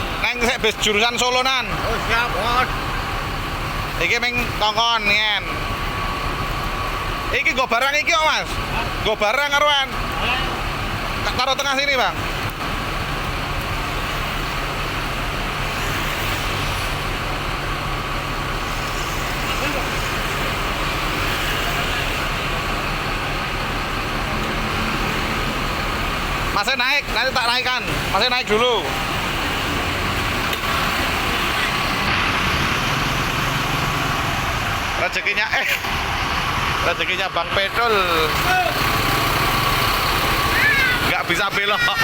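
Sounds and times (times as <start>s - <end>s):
bus engine humming: 0.0s - 42.0s
road and traffic hiss: 0.0s - 42.0s
street noise: 0.0s - 42.0s.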